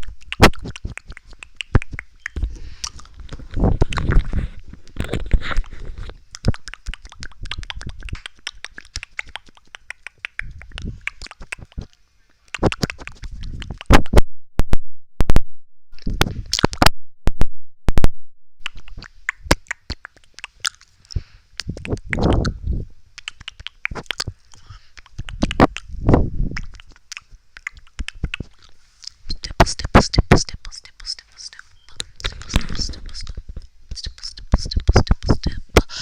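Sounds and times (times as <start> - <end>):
wet mouth clicks and lip smacks: 0.0 - 14.2, 16.0 - 16.9, 18.6 - 36.0.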